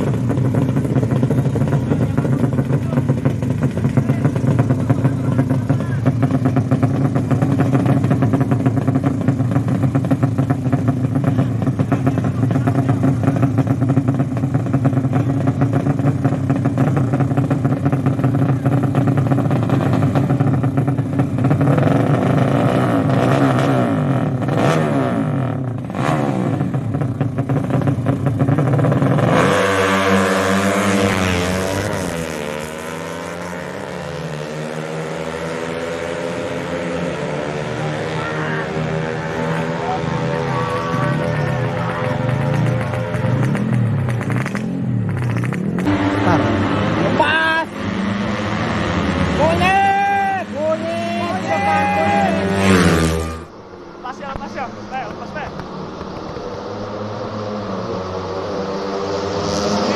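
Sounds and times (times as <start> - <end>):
racing motorcycle engines revving: 0.0 - 59.9.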